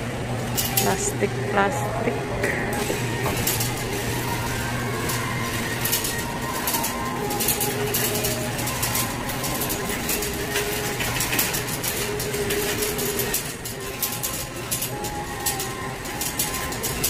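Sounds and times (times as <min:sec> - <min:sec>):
shopping cart rolling and rattling: 0:00.0 - 0:17.0.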